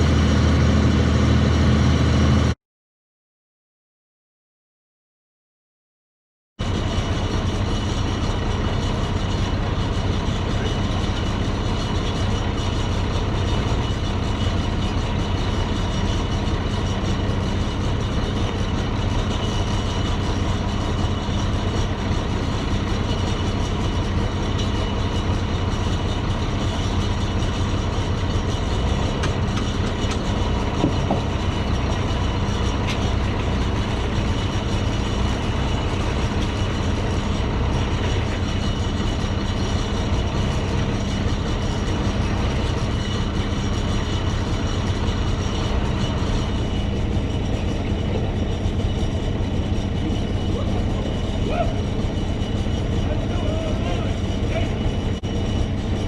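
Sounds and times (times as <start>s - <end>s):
vehicle engine running: 0.0s - 2.6s, 6.6s - 56.0s.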